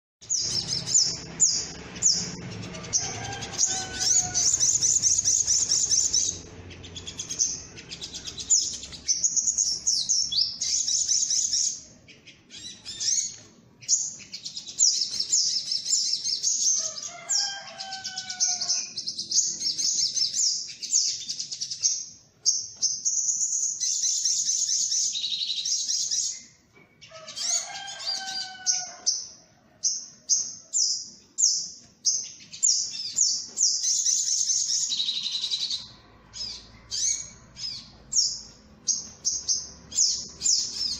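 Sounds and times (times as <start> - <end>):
high-pitched chirping trills: 0.2 - 40.9.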